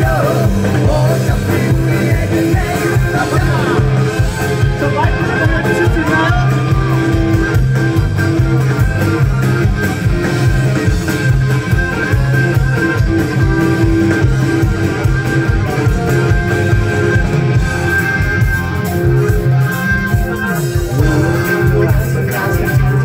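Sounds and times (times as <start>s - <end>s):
bass guitar: 0.0s - 23.0s
electric guitar: 0.0s - 23.0s
steady drum beat: 0.0s - 23.0s.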